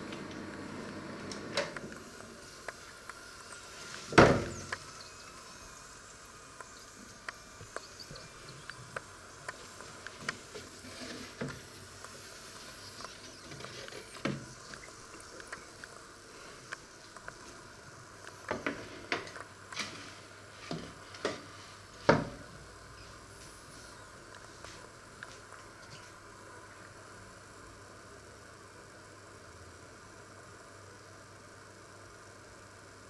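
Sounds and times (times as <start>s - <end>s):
microwave fan hum: 0.0s - 33.0s.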